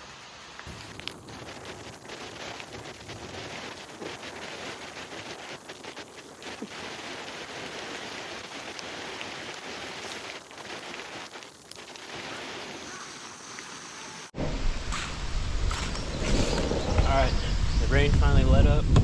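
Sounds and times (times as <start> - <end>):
steady rain hiss: 0.0 - 15.7.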